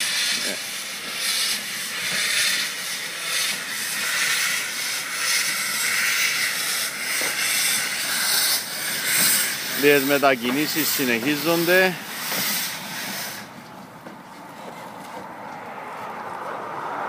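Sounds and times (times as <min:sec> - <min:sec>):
steam locomotive hissing steam: 0:00.0 - 0:13.7.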